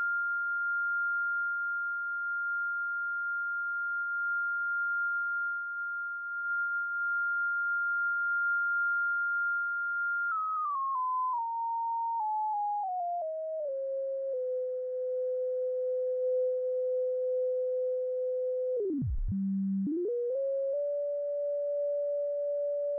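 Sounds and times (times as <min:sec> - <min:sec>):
high sine tone: 0:00.0 - 0:22.9.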